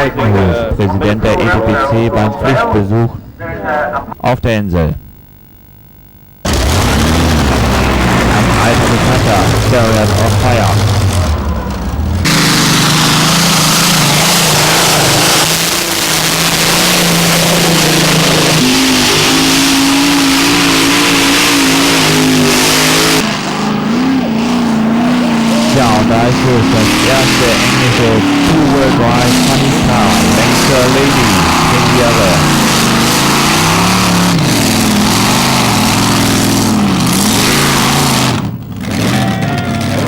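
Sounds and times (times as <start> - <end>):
tractor engine at high revs: 6.4 - 40.0.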